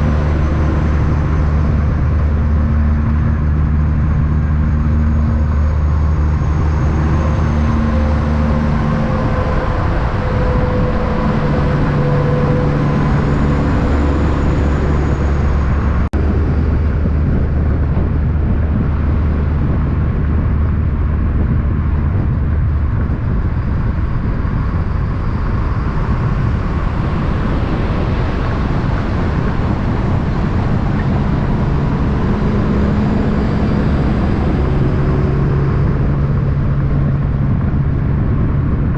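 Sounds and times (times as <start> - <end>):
road noise: 0.0 - 38.9
vehicle engine hum: 0.0 - 38.9.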